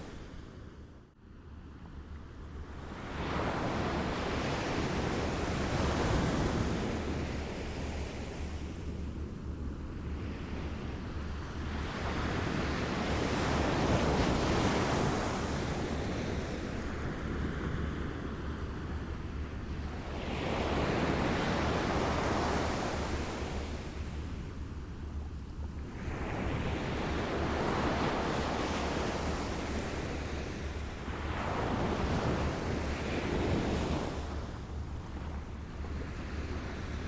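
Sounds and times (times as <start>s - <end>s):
waves lapping on a shore: 2.6s - 9.1s, 9.7s - 37.0s.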